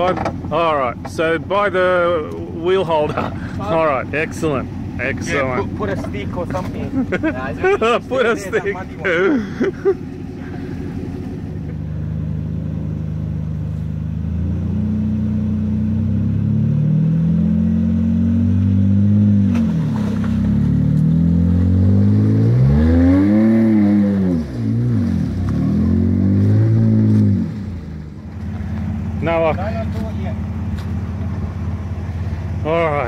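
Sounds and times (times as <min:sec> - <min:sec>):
engines revving under load: 0:00.0 - 0:33.0.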